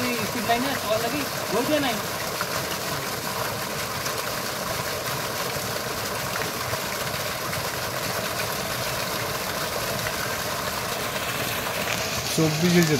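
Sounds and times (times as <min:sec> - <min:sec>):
water gushing onto muddy ground: 0:00.0 - 0:12.9.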